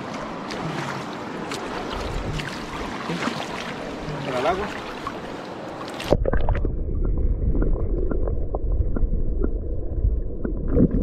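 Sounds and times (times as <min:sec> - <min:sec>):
underwater rumble of moving water: 0:00.0 - 0:11.0.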